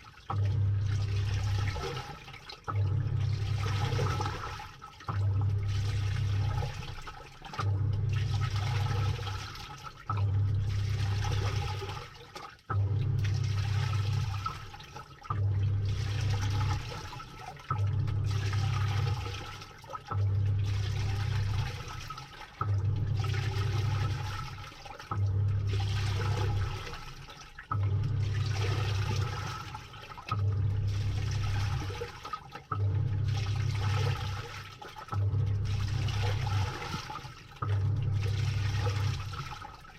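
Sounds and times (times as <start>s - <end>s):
washing machine motor humming: 0.0s - 39.9s
water churning and splashing: 0.0s - 39.9s.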